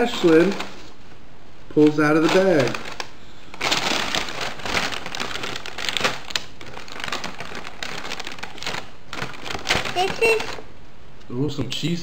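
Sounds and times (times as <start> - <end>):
paper bag rustling and crinkling: 0.0 - 1.0, 1.7 - 10.7.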